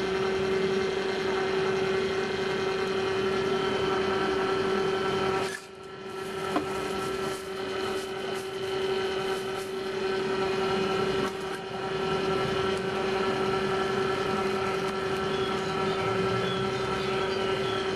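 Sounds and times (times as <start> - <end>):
motor humming: 0.0 - 17.9.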